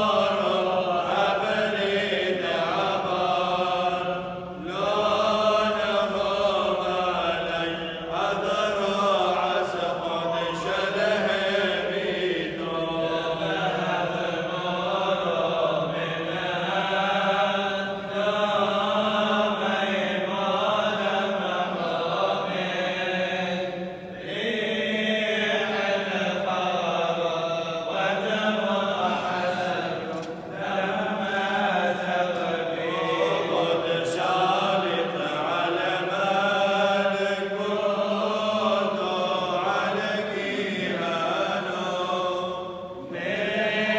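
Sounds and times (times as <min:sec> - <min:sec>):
men chanting a hymn: 0:00.0 - 0:43.9.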